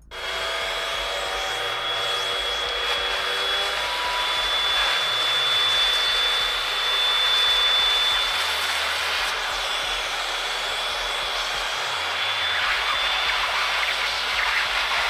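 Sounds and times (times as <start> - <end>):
vacuum cleaner whining: 0.0 - 15.0.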